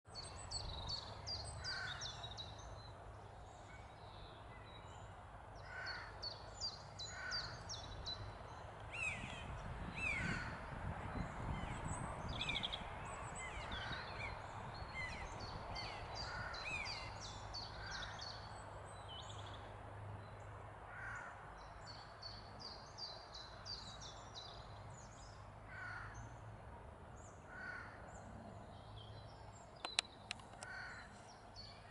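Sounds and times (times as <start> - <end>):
small birds singing: 0.1 - 26.5, 27.1 - 31.9.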